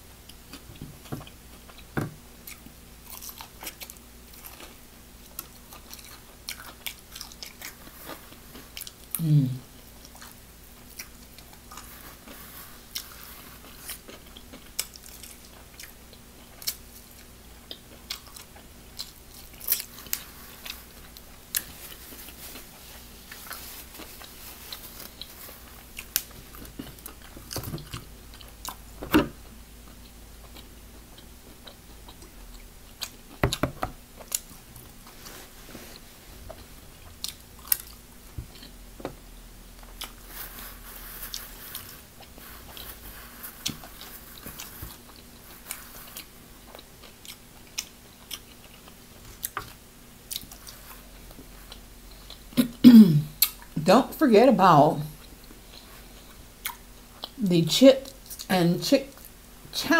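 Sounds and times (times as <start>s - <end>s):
crunchy chewing: 0.2s - 28.8s, 29.8s - 38.8s, 39.7s - 53.8s.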